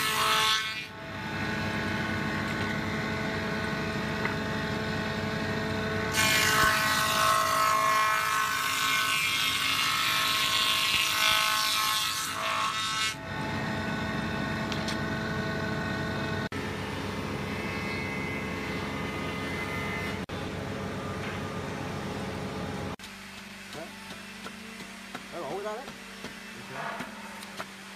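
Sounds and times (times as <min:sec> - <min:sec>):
machine humming: 0:00.1 - 0:27.9.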